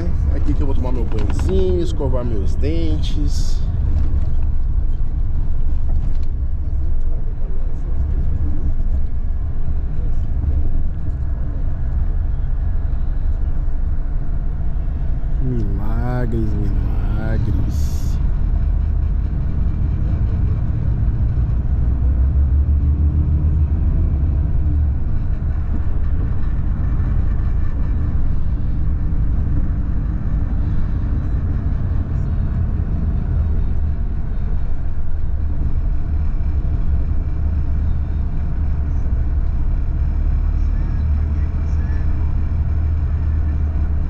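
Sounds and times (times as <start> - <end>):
coach engine and road rumble: 0.0 - 44.0.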